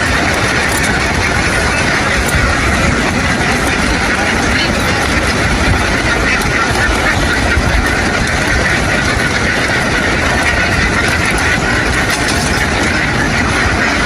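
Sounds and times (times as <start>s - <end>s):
boat engine running: 0.0s - 14.0s
flock of ducks quacking: 0.0s - 14.0s.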